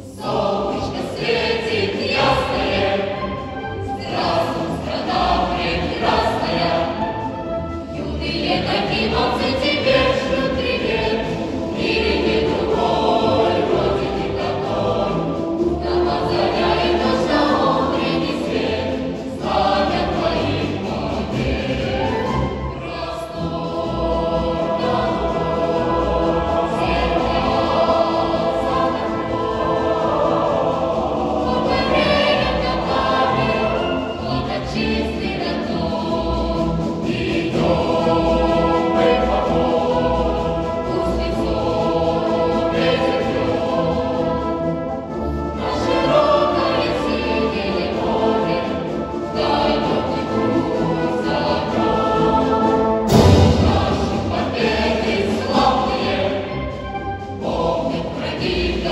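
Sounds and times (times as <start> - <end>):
choir singing a march: 0.0 - 58.9
military concert band: 0.0 - 58.9.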